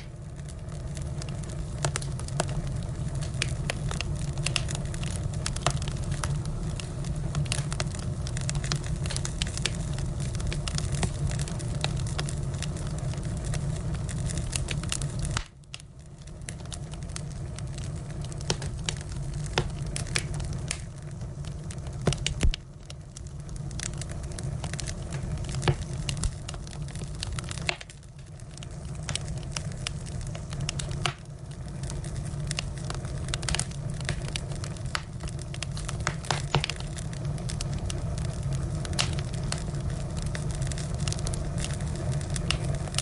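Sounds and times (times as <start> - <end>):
fire crackling and popping: 0.0 - 43.0
low fire rumble: 0.0 - 43.0.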